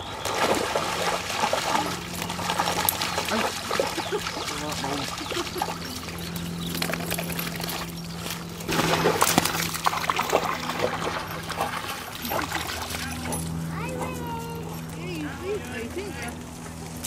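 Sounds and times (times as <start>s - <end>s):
dogs splashing in water: 0.0s - 14.5s.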